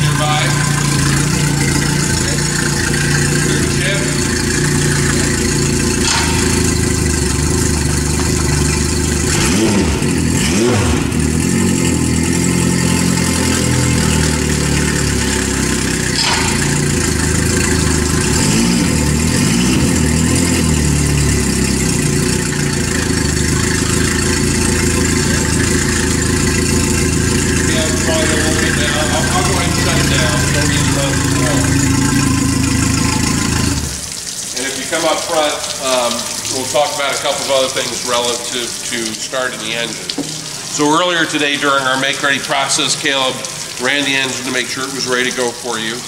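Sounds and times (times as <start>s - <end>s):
outboard motor idling: 0.0s - 46.0s.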